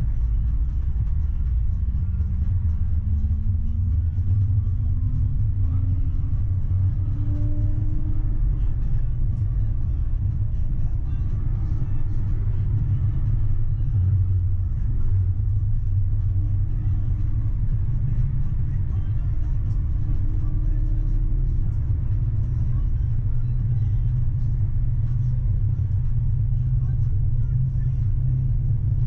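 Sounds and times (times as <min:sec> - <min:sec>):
tram rumbling on rails: 0:00.0 - 0:29.0.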